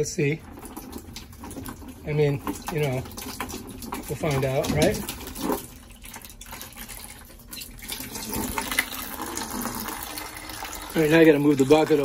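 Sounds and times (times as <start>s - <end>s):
water splashing into bucket: 0.0s - 12.0s.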